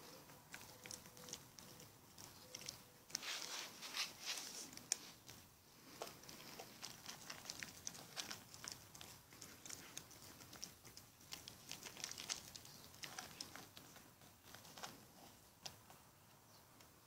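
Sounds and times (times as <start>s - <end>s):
animals chewing crunchy food: 0.0s - 16.4s.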